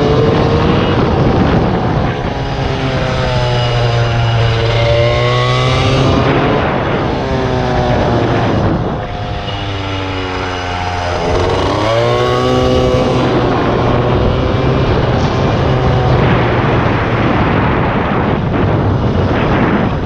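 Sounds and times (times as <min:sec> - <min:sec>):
small motorcycle engine revving: 0:00.0 - 0:18.4.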